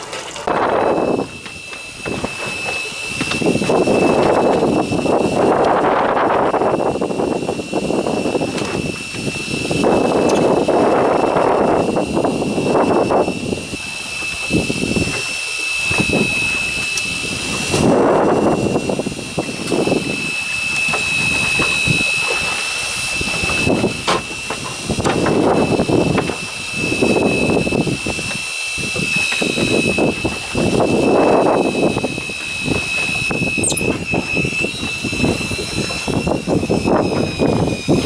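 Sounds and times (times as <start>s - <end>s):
wind buffeting microphone: 0.0s - 38.0s
high-pitched whine: 0.7s - 38.0s.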